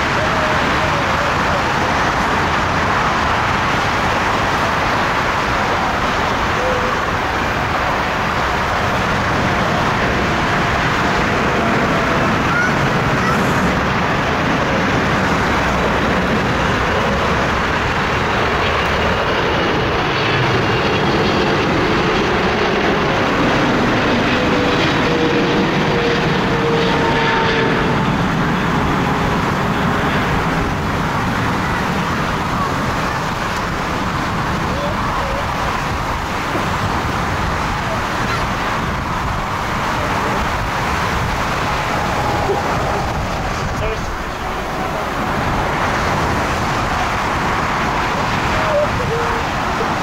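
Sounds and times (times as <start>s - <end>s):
jet engine rumble and hiss: 0.0s - 50.0s.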